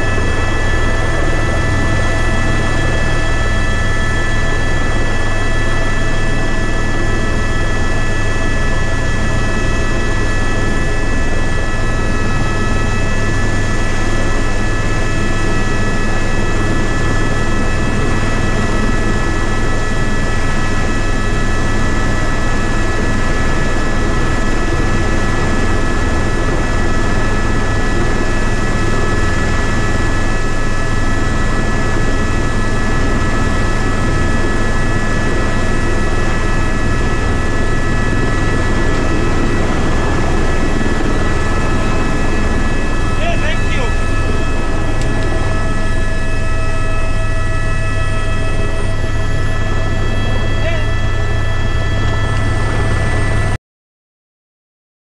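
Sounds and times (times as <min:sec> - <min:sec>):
helicopter engine and rotor noise: 0:00.0 - 0:53.6
turbine high whine: 0:00.0 - 0:53.6.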